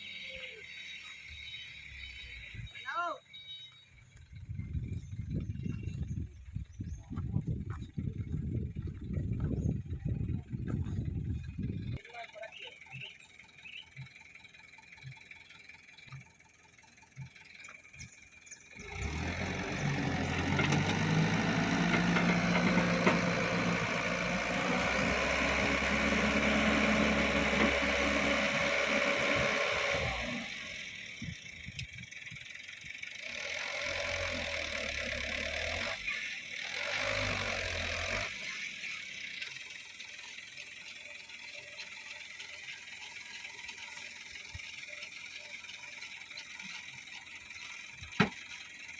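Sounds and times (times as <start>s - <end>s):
diesel truck engine working hard: 0.0s - 48.9s.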